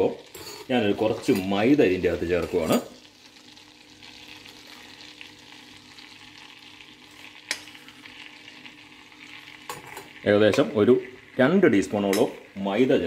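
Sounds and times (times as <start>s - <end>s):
butter bubbling and sizzling: 0.0s - 13.0s.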